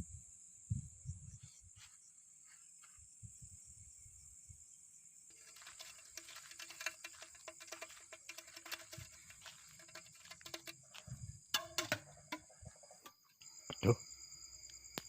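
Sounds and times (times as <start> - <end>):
crickets droning: 0.0 - 15.0.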